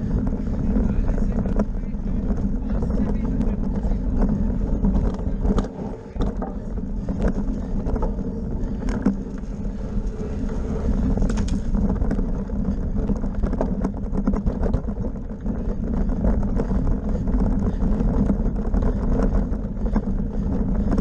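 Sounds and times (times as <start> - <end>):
bicycle tyre noise on grass: 0.0 - 21.0
bike rattling over bumps: 0.0 - 21.0
wind buffeting microphone: 0.0 - 21.0.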